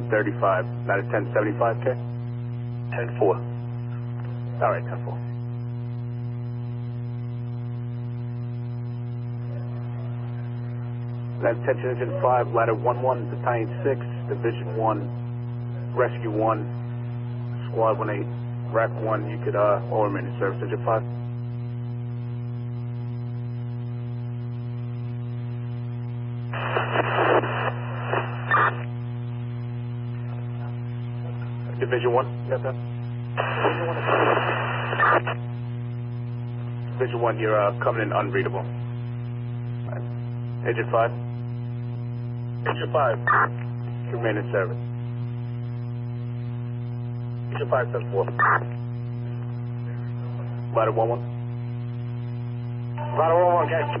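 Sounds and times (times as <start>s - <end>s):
garbled radio transmission: 0.0s - 6.0s, 9.2s - 21.2s, 25.8s - 35.6s, 36.4s - 38.9s, 39.8s - 54.0s
low electrical hum: 0.0s - 54.0s.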